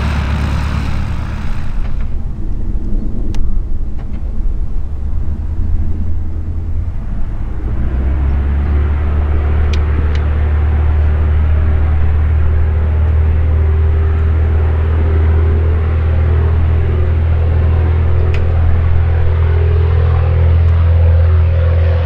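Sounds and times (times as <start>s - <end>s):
light aircraft engine and propeller: 0.0s - 22.0s.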